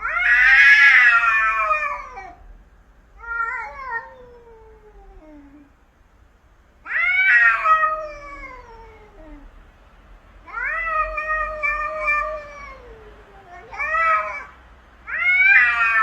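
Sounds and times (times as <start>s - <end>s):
cat yowling: 0.0s - 2.4s, 3.2s - 5.7s, 6.8s - 9.5s, 10.5s - 16.0s.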